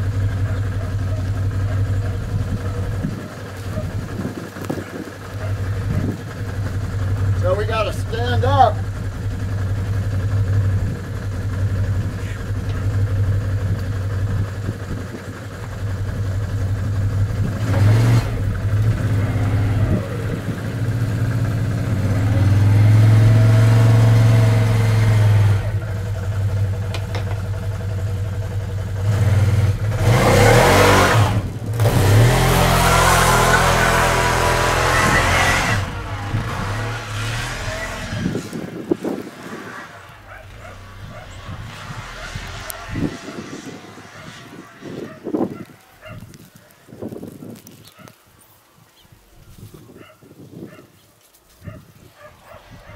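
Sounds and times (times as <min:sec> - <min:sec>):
quad bike engine revving: 0:00.0 - 0:46.5.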